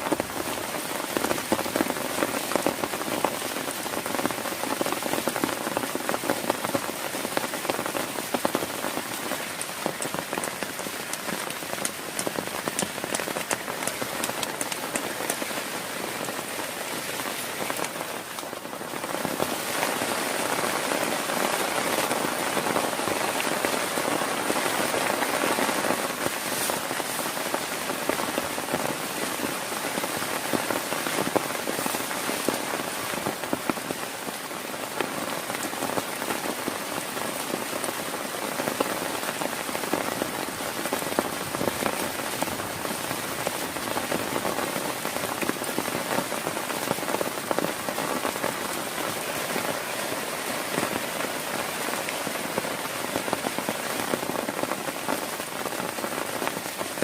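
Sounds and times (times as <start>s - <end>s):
heavy rain hissing: 0.0s - 57.0s
raindrop hits: 0.0s - 57.0s.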